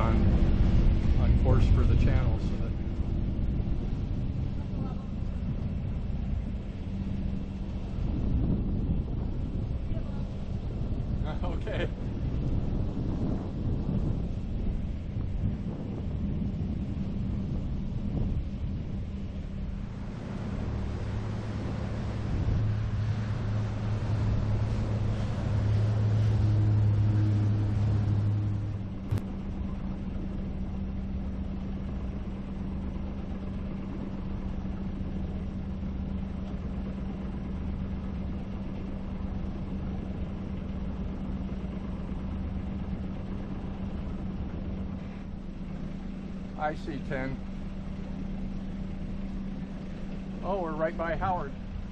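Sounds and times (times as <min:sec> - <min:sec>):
boat engine droning: 0:00.0 - 0:51.9
deep noisy hum: 0:00.0 - 0:51.9.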